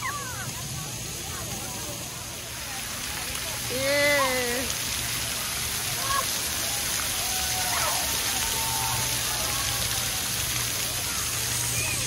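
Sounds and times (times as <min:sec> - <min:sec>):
water jets spraying: 0:00.0 - 0:12.0.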